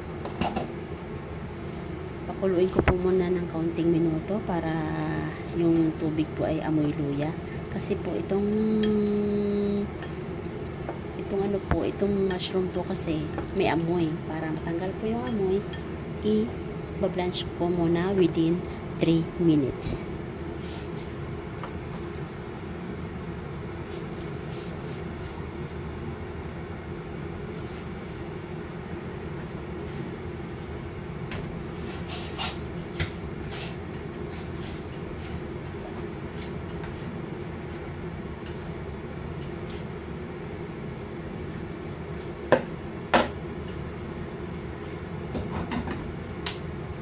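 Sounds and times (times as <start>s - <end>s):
gas stove humming: 0.0s - 47.0s.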